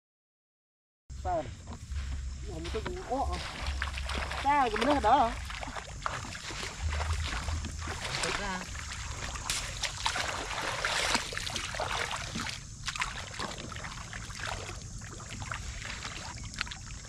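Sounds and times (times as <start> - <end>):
water sloshing and splashing: 1.9 - 17.0.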